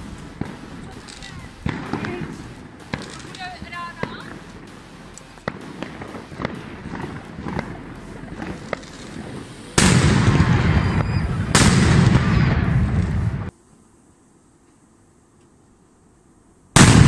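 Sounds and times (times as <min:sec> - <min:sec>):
firecrackers exploding with echo: 0:00.0 - 0:13.6, 0:16.7 - 0:17.0.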